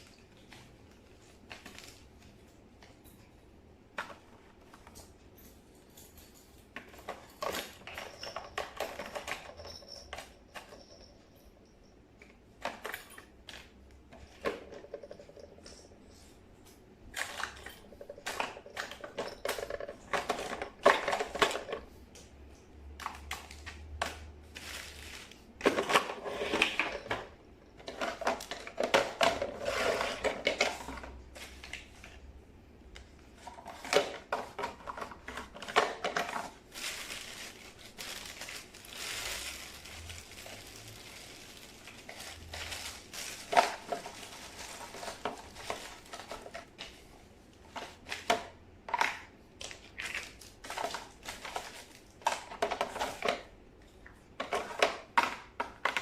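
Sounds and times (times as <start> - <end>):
objects clattering and rustling: 0.0 - 56.0.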